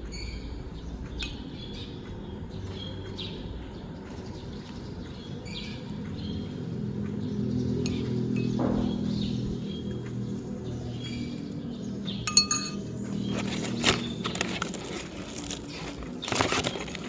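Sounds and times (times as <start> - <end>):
bird chirps: 0.0 - 17.0
low steady hum: 0.0 - 17.0.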